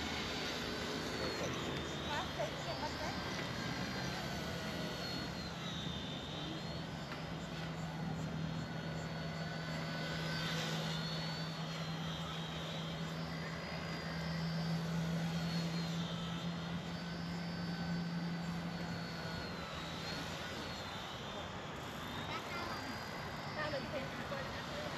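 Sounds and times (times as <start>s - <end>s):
electric motor whine: 0.0s - 24.9s
toy helicopter rotor buzzing: 0.0s - 24.9s.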